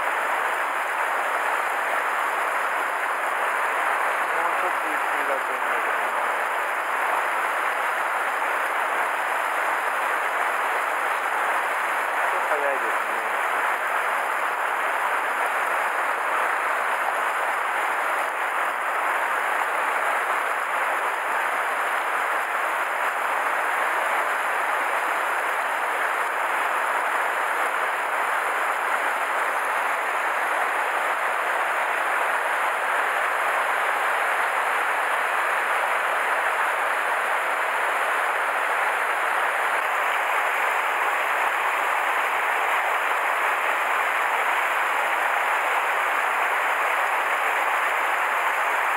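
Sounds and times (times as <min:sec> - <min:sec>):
stream rushing over boulders: 0:00.0 - 0:48.9.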